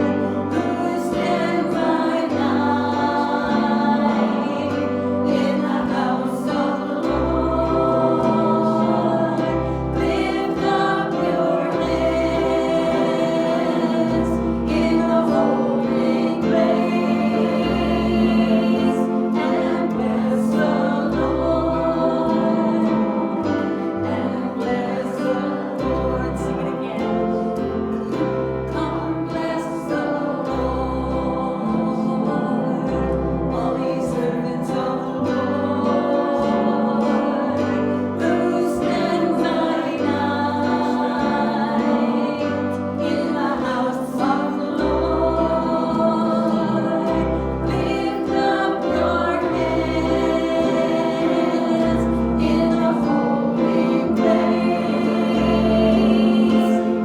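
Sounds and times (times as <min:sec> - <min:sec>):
group of voices singing: 0:00.0 - 0:57.0
instrumental accompaniment: 0:00.0 - 0:57.0.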